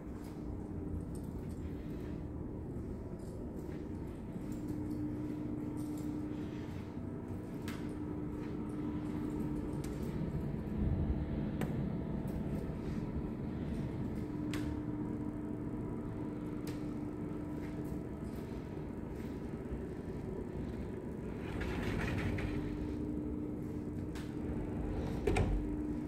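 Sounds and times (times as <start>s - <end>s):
constant droning tone: 0.0s - 26.0s
room noise hum and rumble: 0.0s - 26.0s.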